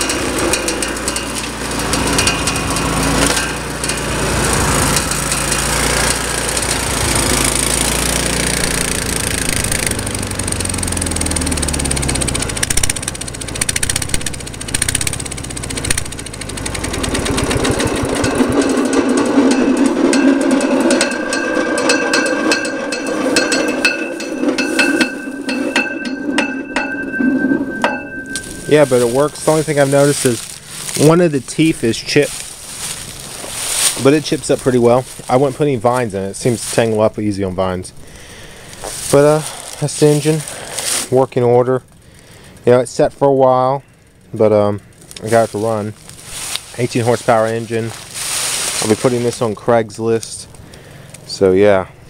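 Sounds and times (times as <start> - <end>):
rattling whirring with thin whine: 0.0 - 52.0
wood chipper engine running: 0.0 - 52.0.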